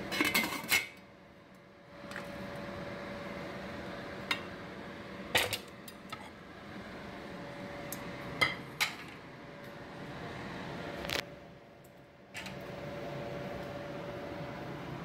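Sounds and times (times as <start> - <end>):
steady hum: 1.1 - 15.0.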